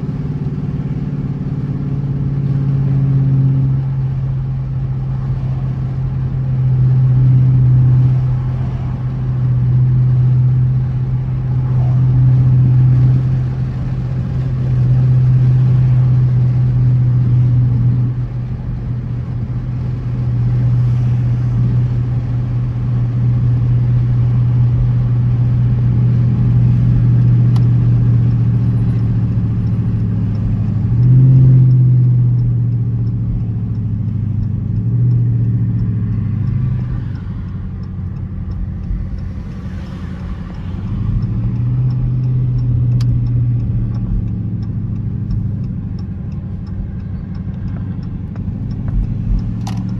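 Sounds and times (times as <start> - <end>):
car engine droning: 0.0 - 49.9.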